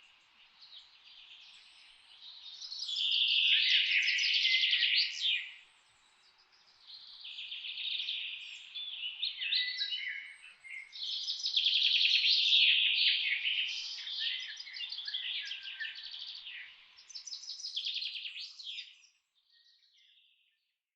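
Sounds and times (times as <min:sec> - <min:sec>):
birds chirping and trilling: 0:00.0 - 0:20.4.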